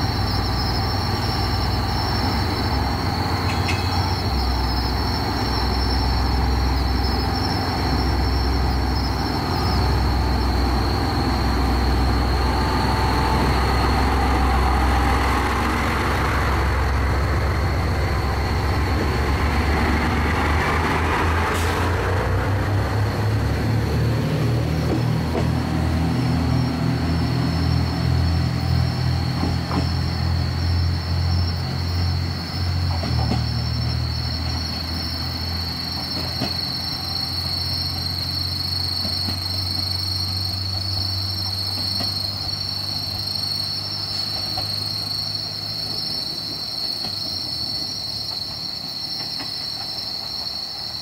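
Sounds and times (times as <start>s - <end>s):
diesel railcar engine drone: 0.0s - 51.0s
insects trilling: 0.0s - 51.0s.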